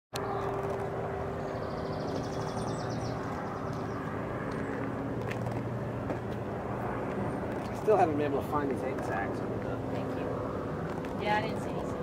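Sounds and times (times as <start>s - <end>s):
low mechanical drone: 0.1s - 12.0s.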